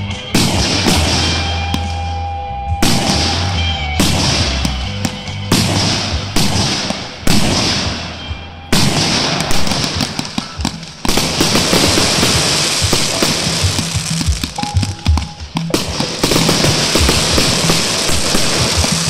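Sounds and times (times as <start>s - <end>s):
firework crackling: 0.0s - 2.2s, 2.8s - 19.0s
firework shells bursting: 2.8s - 19.0s.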